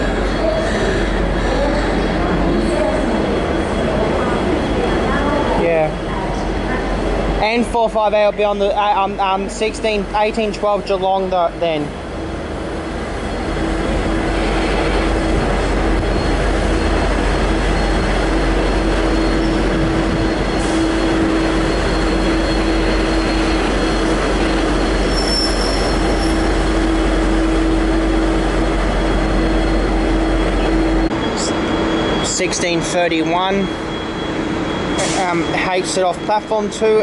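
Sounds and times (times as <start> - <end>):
constant droning tone: 0.0 - 37.0
diesel locomotive engine rumble: 0.0 - 37.0.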